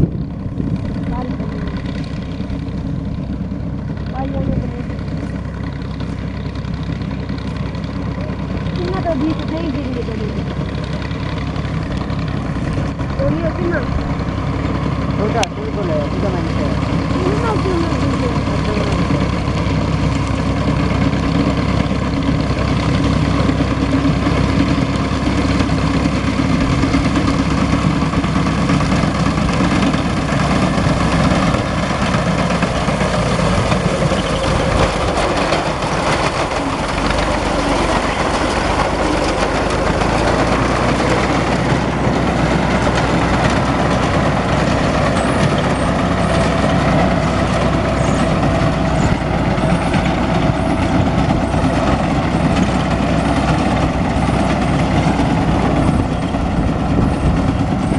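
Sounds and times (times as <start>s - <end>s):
tractor engine running: 0.0s - 57.9s
reaper cutting crop: 0.1s - 57.9s.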